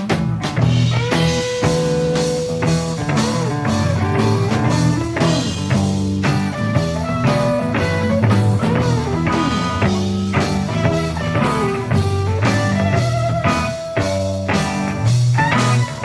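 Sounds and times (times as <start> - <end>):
bending electric guitar notes: 0.0 - 16.0
blues-rock instrumental: 0.0 - 16.0.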